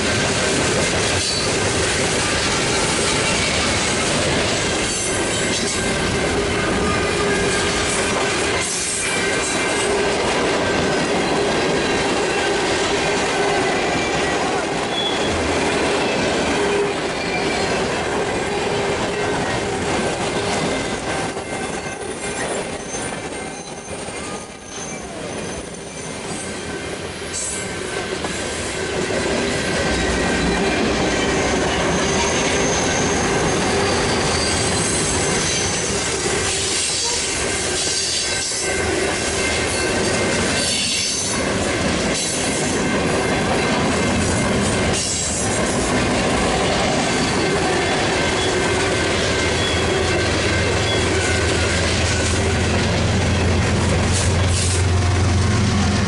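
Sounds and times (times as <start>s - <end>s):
diesel locomotive engine rumble: 0.0s - 56.0s
steel wheels squealing: 1.0s - 56.0s.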